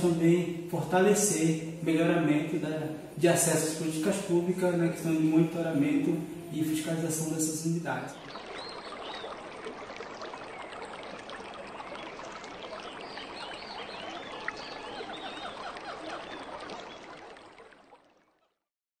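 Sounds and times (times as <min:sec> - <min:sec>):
rush of running water: 0:00.0 - 0:18.2.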